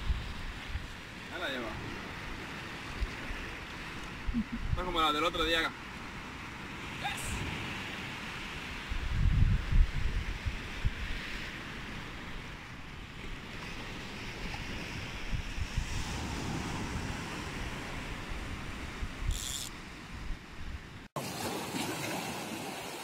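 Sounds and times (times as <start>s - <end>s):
wind rumbling on microphone: 0.0s - 5.1s, 6.0s - 21.1s
surf washing onto beach: 0.0s - 19.3s, 21.2s - 23.0s.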